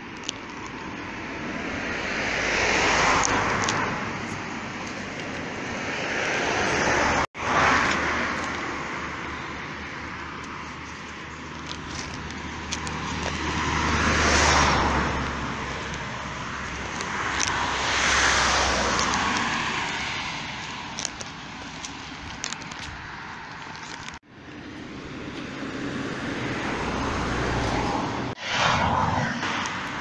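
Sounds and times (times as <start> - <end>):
cars passing: 0.0 - 30.0.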